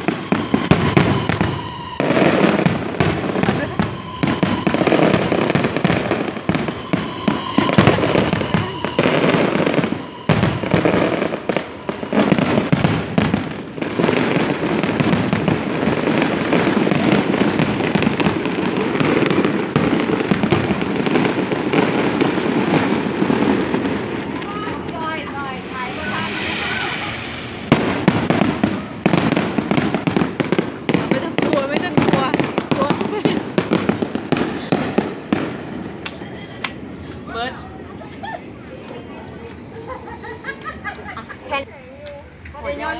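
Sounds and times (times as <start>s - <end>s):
fireworks bangs: 0.0s - 41.6s.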